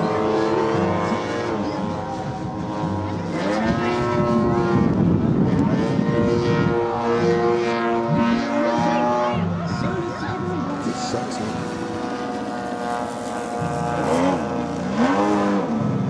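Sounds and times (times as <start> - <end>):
model plane engine overhead: 0.0 - 16.0.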